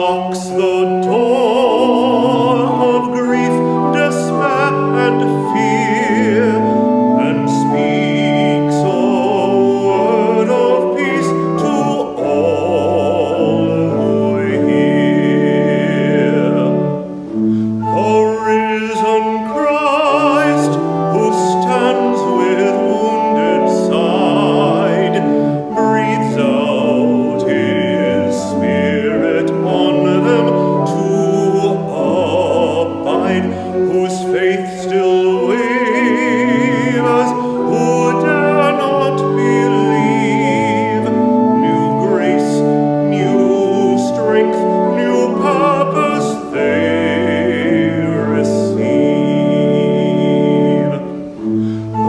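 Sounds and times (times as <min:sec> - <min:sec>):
classical singer with vibrato: 0:00.0 - 0:52.0
instrumental accompaniment: 0:00.0 - 0:52.0.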